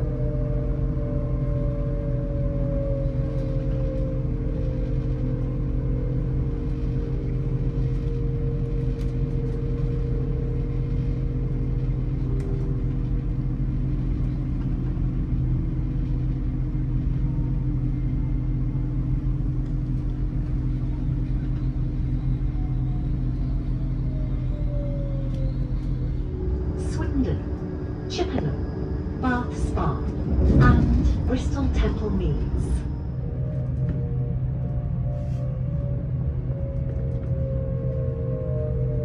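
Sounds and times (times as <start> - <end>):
train low rumble and hum: 0.0 - 39.0.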